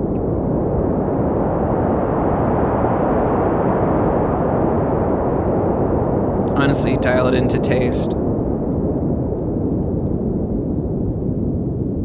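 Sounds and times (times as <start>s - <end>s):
filtered synthesizer noise hiss: 0.0s - 12.0s.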